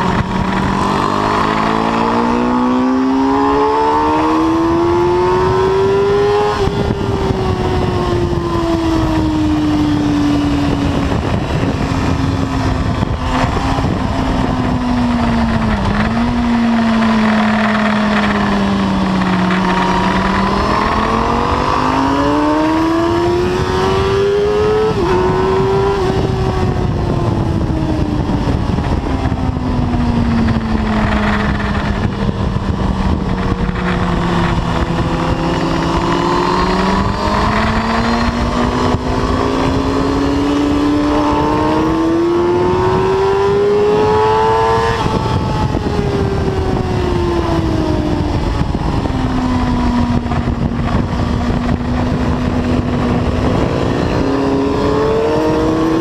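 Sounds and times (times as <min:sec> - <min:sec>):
motorcycle engine revving: 0:00.0 - 0:56.0
wind rush: 0:00.0 - 0:56.0.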